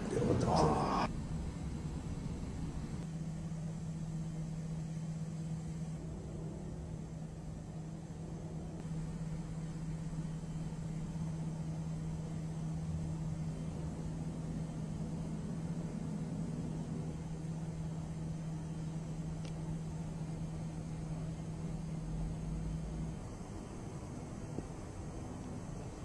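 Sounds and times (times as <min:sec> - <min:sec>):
even hiss: 0:00.0 - 0:26.0
low hum: 0:00.0 - 0:26.0.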